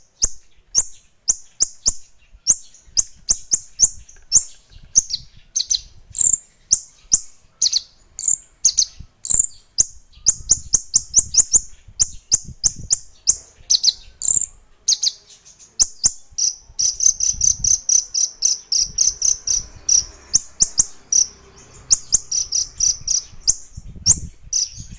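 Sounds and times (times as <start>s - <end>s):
songbird chirping: 0.0s - 24.9s.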